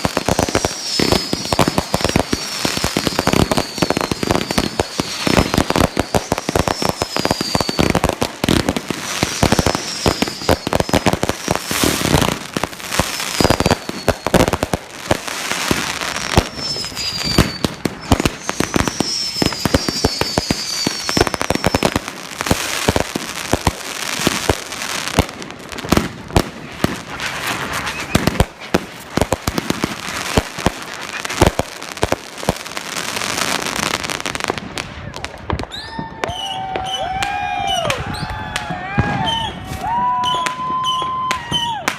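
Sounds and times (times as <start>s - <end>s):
firework whistles: 0.0s - 23.1s, 25.9s - 34.1s, 34.9s - 41.9s
fireworks bangs and crackles: 0.0s - 41.9s.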